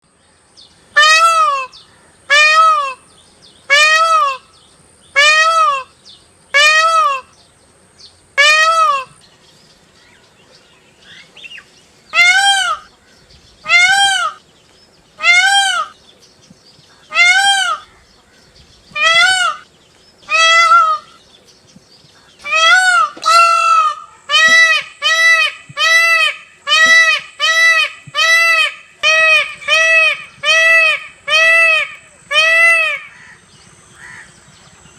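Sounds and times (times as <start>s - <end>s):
peacock calling: 0.8s - 34.9s.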